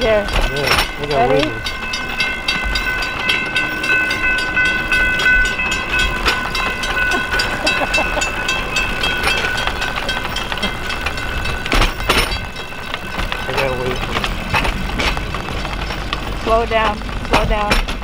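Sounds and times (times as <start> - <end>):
railroad crossing bell ringing: 0.0 - 17.9.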